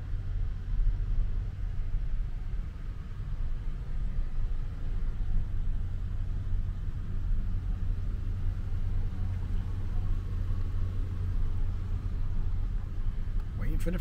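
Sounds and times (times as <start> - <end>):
vehicle engine rumble inside cabin: 0.0 - 14.0.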